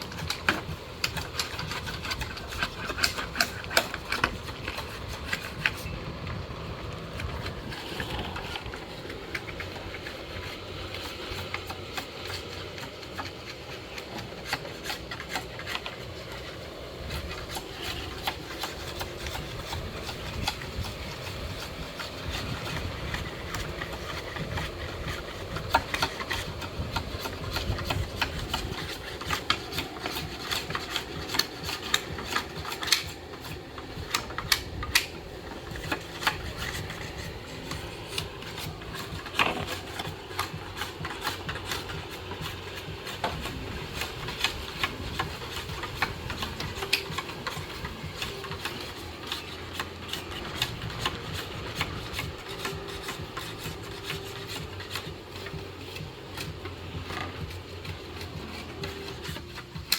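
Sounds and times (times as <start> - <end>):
irregular scraping and rubbing: 0.0 - 59.9
steady low hum: 0.0 - 59.9.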